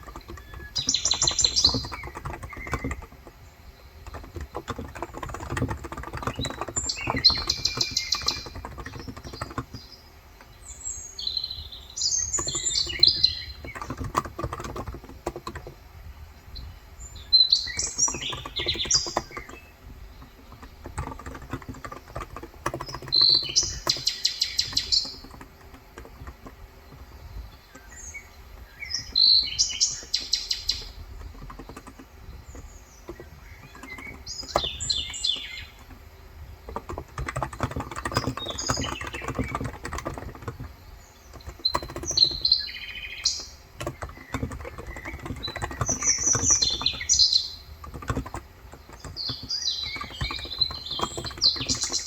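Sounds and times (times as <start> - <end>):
keyboard typing: 0.0 - 10.5, 12.2 - 16.0, 17.2 - 52.0
birds chirping: 0.0 - 52.0.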